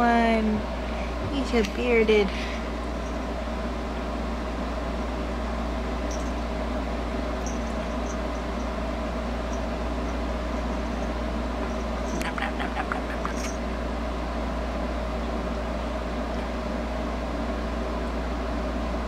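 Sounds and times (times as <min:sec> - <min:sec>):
appliance hum and hiss: 0:00.0 - 0:19.0.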